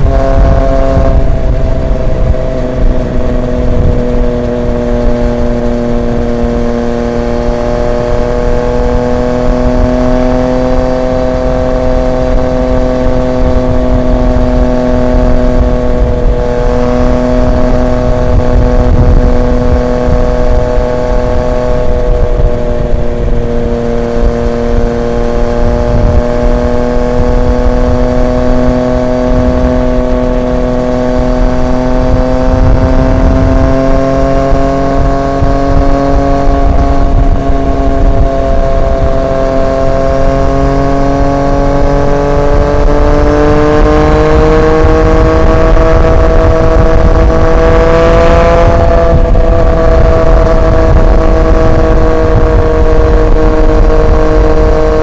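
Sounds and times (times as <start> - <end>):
low rumble: 0.0 - 54.2
motorcycle engine cruising: 0.0 - 55.0.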